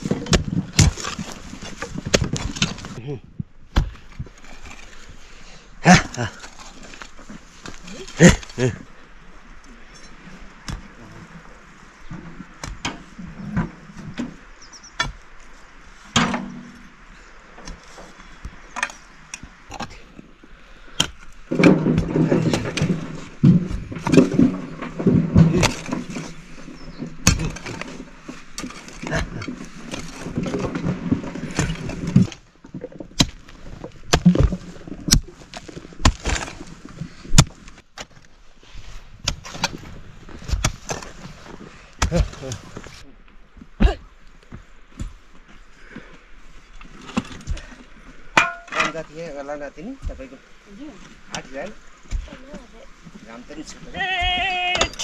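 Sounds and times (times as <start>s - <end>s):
digging tools scraping earth: 0.0s - 3.1s, 3.7s - 9.0s, 9.6s - 55.0s.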